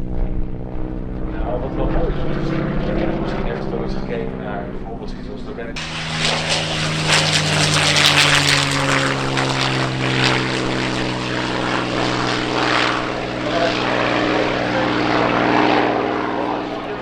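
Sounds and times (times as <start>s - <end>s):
propeller plane flying by: 0.0s - 17.0s.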